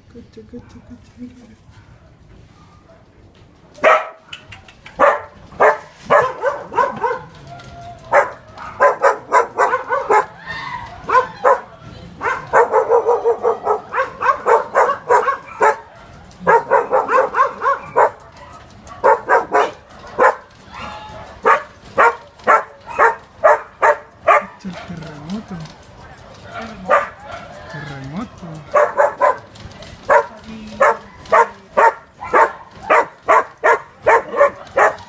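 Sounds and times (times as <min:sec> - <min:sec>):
dog barking: 0:03.8 - 0:35.0.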